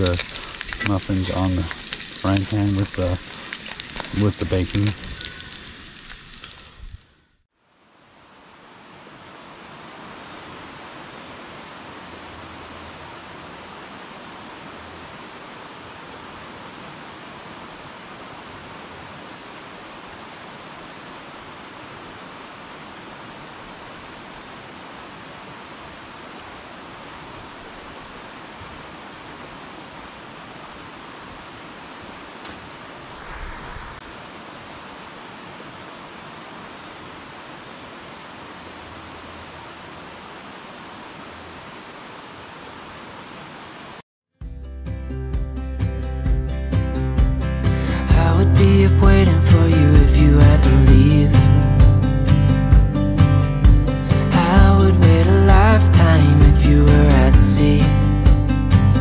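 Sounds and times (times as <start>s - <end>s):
stream rushing over rocks: 0.0s - 6.9s, 7.8s - 44.0s, 47.6s - 59.0s.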